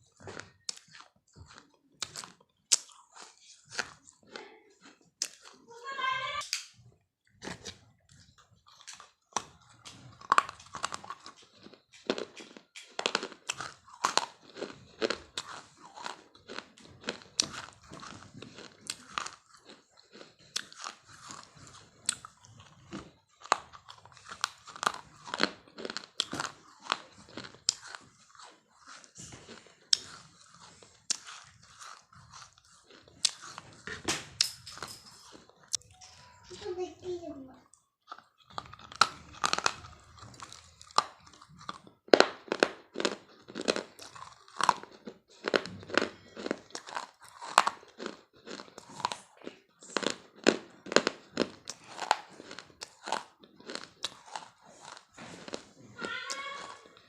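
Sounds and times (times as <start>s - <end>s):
person chewing crunchy food: 0.0s - 36.6s, 37.6s - 57.0s.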